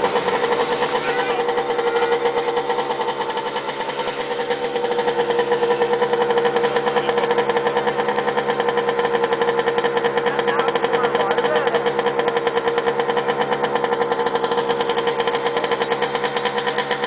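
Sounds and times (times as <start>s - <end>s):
moped engine buzzing: 0.0s - 17.0s.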